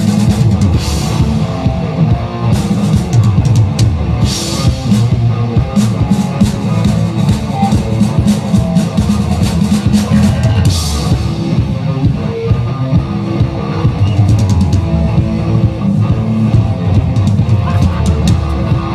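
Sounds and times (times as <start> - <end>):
drum kit playing: 0.0 - 18.9
low guitar notes: 0.0 - 18.9.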